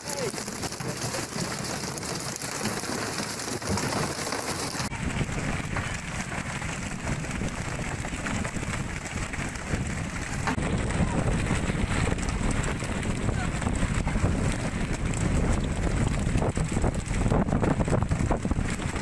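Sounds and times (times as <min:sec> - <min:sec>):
deep rumble: 0:00.1 - 0:19.0.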